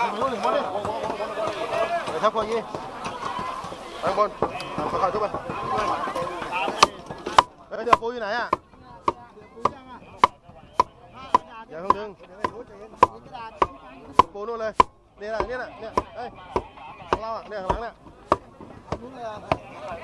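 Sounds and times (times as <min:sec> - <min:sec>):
hammer blows on concrete: 0:00.0 - 0:20.0.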